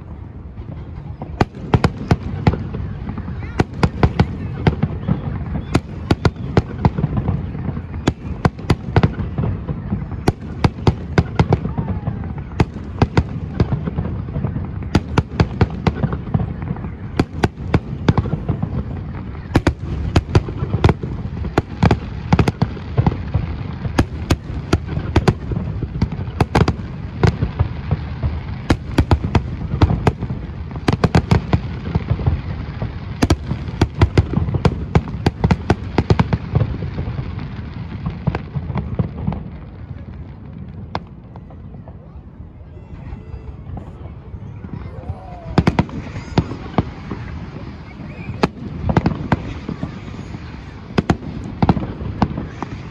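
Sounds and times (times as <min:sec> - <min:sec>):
fireworks bursting and crackling: 0:00.0 - 0:52.9.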